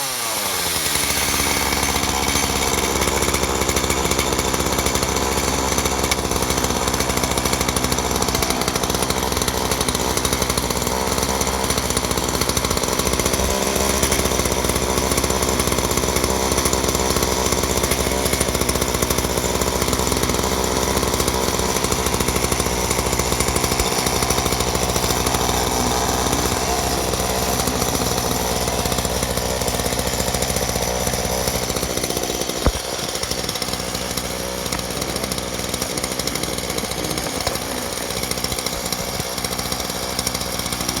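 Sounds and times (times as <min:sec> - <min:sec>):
chainsaw running: 0:00.0 - 0:41.0.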